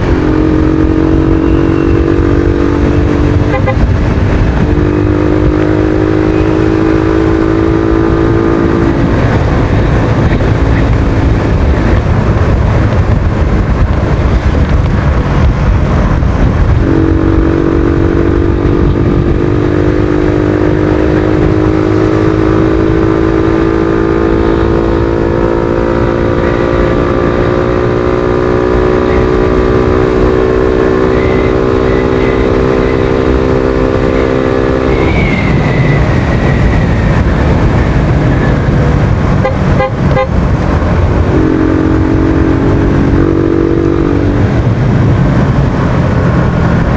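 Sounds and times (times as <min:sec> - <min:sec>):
motorcycle engine running: 0:00.0 - 0:46.9
wind rush on microphone: 0:00.0 - 0:46.9.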